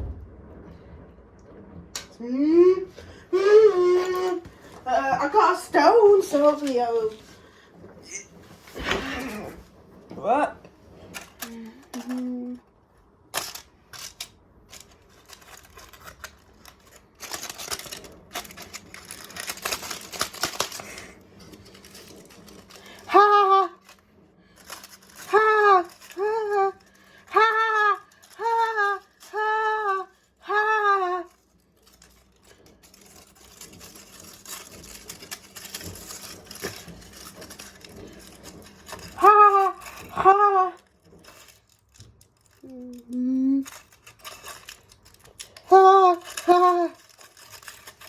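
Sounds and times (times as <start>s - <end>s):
washing machine running: 0.0s - 42.3s.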